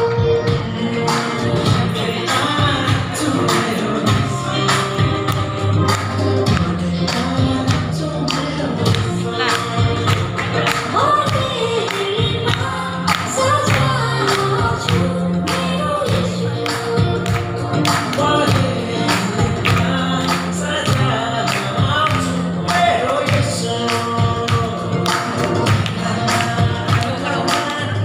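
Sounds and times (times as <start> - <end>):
steady beat with bass line: 0.0 - 28.0
gospel singing: 0.5 - 28.0.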